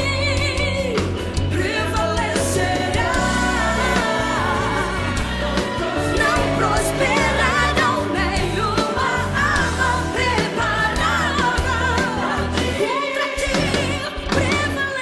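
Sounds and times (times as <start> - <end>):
steady bass line: 0.0 - 12.8
worship music with singing: 0.0 - 15.0.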